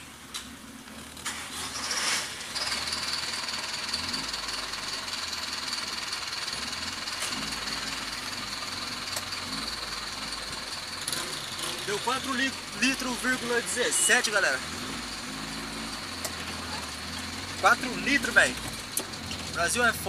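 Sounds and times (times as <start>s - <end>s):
low engine rumble: 3.0s - 20.0s.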